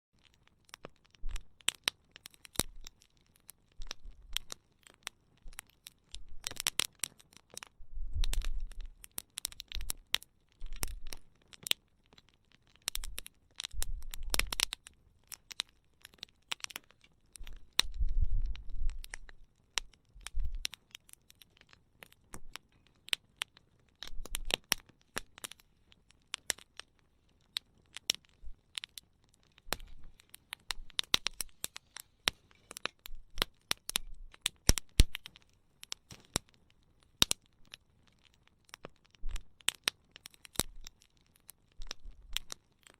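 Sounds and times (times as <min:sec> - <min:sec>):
campfire crackling and popping: 0:00.1 - 0:42.9.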